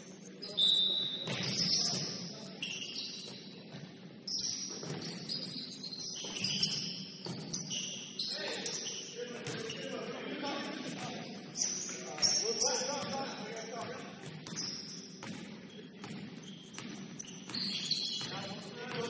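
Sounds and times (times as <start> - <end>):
sneakers squeaking on gym floor: 0.0 - 19.0.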